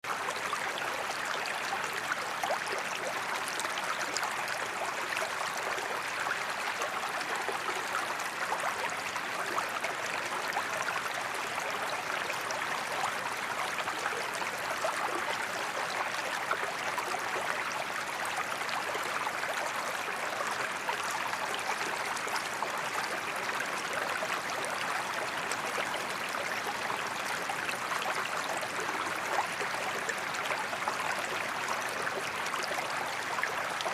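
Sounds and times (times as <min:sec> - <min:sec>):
creek babbling over stones: 0:00.0 - 0:33.9.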